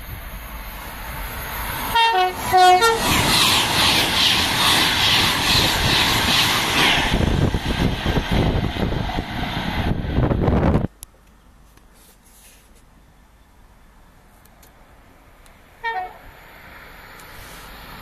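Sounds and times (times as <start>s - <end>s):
express train passing: 0.0s - 10.9s, 13.4s - 18.0s.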